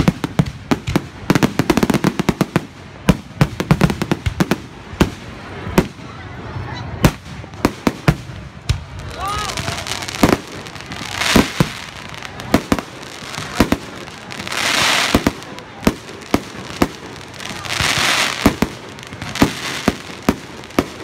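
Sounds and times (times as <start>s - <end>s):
fireworks bangs: 0.0s - 21.0s
fireworks hissing crackle: 0.0s - 21.0s.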